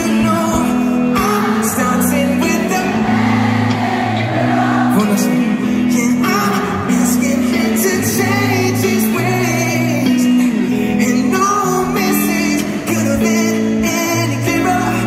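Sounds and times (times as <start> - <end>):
man singing into microphone: 0.0 - 3.2, 4.8 - 15.0
bass notes: 0.0 - 15.0
guitar: 0.0 - 15.0.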